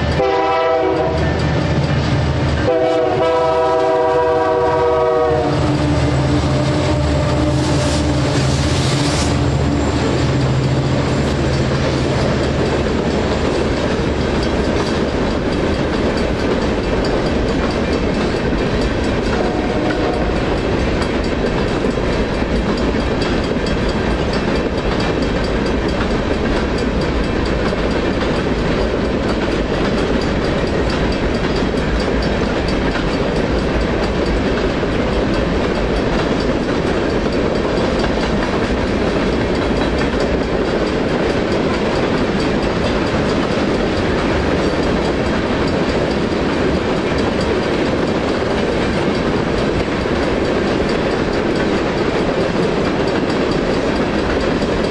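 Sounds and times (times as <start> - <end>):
diesel locomotive engine drone: 0.0 - 54.9
wheels clickety-clack over rails: 0.0 - 54.9.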